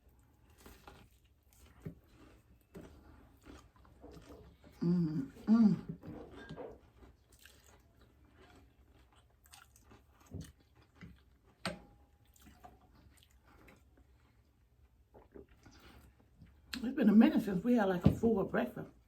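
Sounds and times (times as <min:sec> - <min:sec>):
chewing and crunching food: 0:00.0 - 0:17.6.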